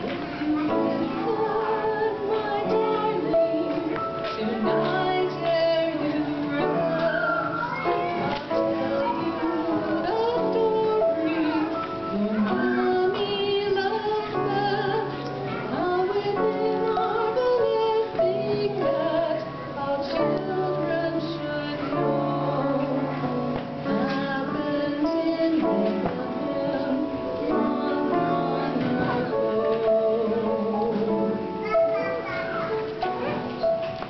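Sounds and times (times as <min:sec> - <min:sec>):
woman singing: 0:00.0 - 0:07.8, 0:08.6 - 0:31.6
instrumental accompaniment: 0:00.0 - 0:34.0.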